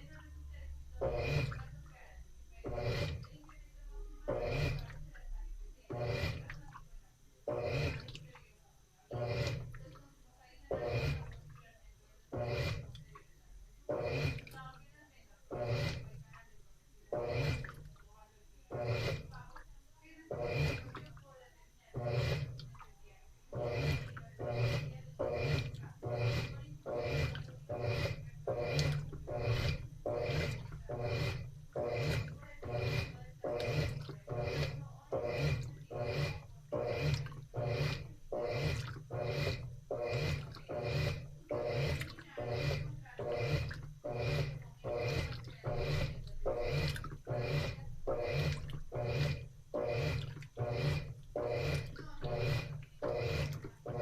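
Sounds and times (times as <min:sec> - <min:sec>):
washing machine motor hum: 0:00.0 - 0:54.0
water swishing back and forth: 0:00.0 - 0:54.0.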